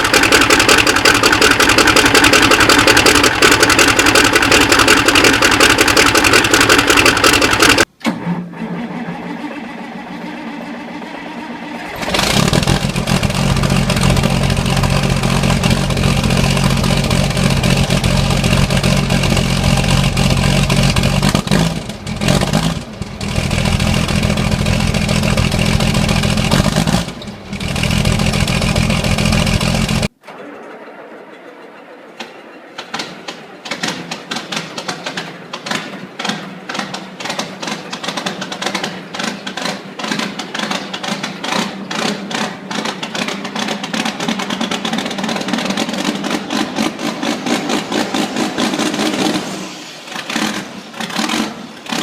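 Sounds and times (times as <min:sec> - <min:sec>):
diesel engines starting and running: 0:00.0 - 0:52.0.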